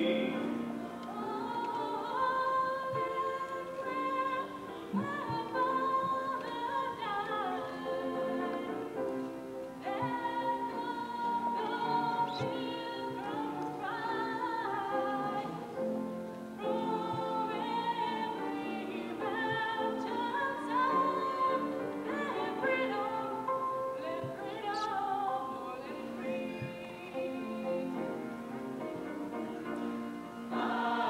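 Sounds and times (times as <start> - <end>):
choir of young voices singing: 0.0 - 31.0.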